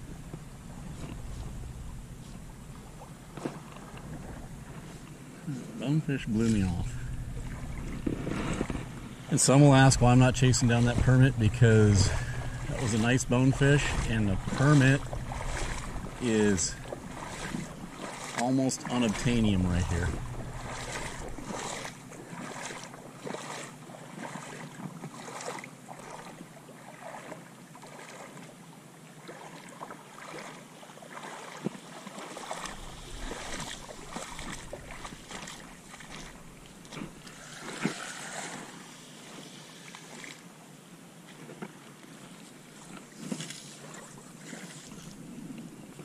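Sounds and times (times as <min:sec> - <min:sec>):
water lapping and splashing: 0:00.0 - 0:46.0.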